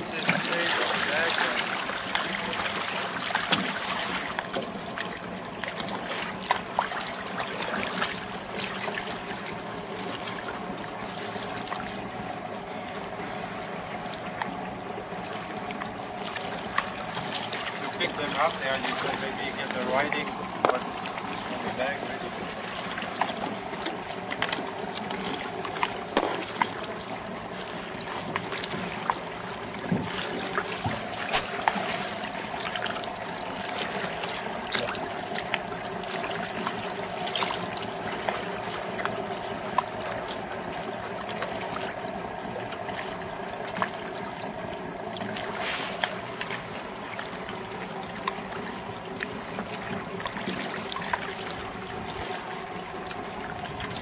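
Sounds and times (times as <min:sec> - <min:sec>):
motor hum: 0:00.0 - 0:54.0
water trickling: 0:00.0 - 0:54.0.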